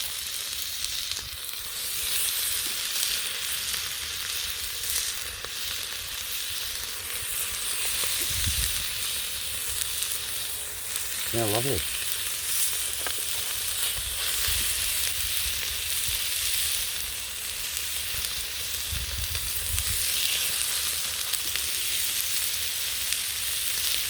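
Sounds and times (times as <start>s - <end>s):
pork chops sizzling in a pan: 0.0s - 24.0s.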